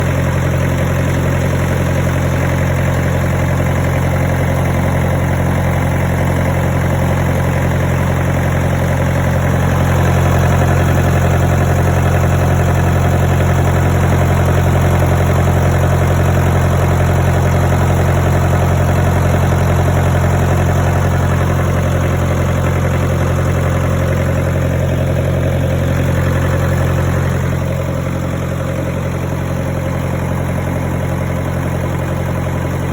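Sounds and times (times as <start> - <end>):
diesel generator running: 0.0 - 32.9.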